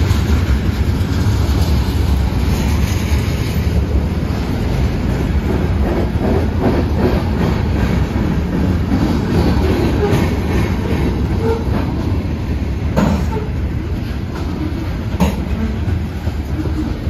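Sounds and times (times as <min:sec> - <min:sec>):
freight train rumbling past: 0:00.0 - 0:17.0
wheels clacking over rail joints: 0:00.0 - 0:17.0.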